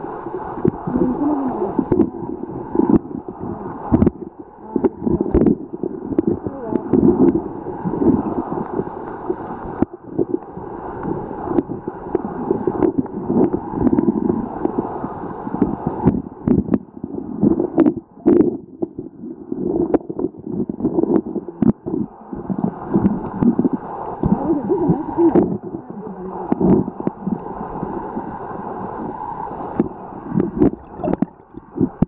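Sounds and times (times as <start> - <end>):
muffled underwater river gurgling: 0.0 - 32.0.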